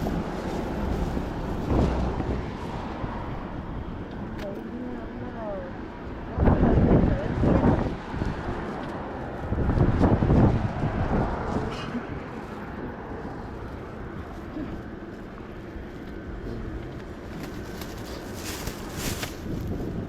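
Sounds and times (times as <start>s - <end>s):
wind buffeting microphone: 0.0s - 4.4s, 5.0s - 14.9s, 15.8s - 20.0s
outdoor background rumble: 0.0s - 20.0s.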